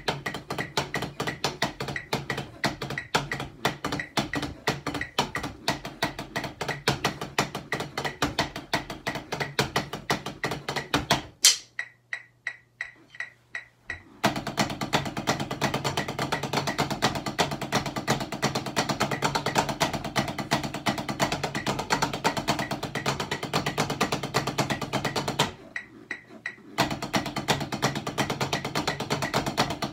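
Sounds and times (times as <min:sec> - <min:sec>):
drumsticks tapping on rubber pads: 0:00.0 - 0:29.9.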